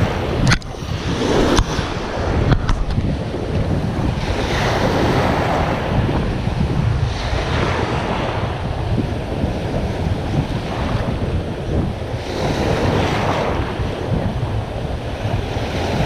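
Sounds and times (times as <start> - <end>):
surf washing onto beach: 0.0 - 16.0
wind buffeting microphone: 0.0 - 16.0.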